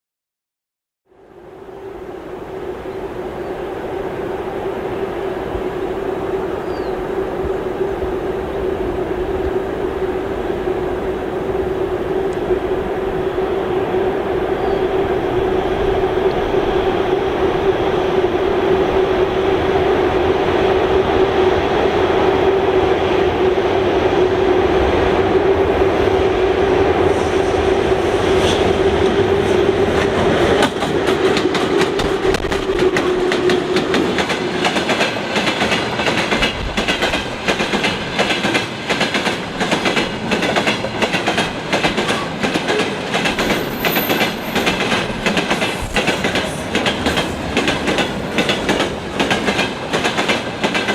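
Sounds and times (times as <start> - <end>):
electric locomotive whine: 1.1 - 50.9.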